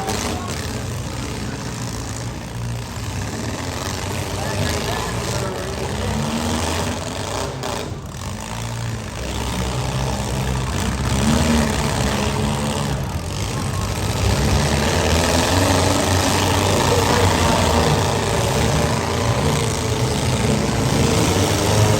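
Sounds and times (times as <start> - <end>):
car engines revving: 0.0 - 21.9.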